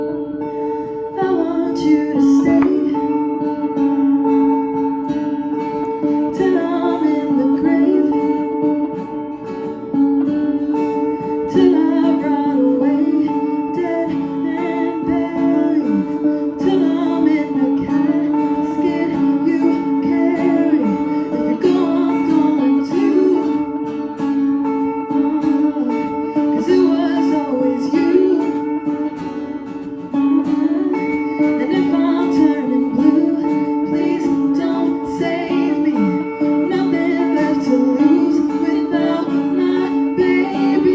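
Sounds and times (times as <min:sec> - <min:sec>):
person singing: 0:00.0 - 0:40.9
plucked guitar: 0:00.0 - 0:40.9.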